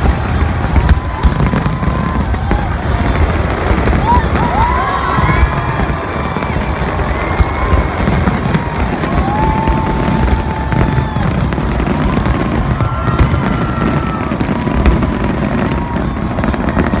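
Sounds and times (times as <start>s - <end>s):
fireworks booms: 0.0s - 17.0s
fireworks crackling: 0.0s - 17.0s
whistling fireworks: 0.0s - 17.0s.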